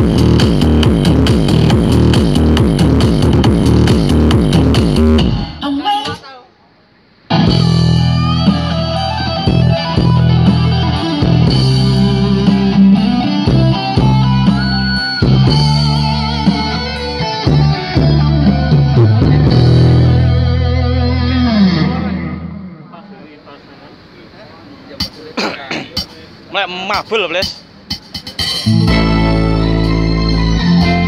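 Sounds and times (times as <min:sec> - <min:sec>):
loud rock music over sound system: 0:00.0 - 0:05.6, 0:07.3 - 0:22.8, 0:26.9 - 0:31.0.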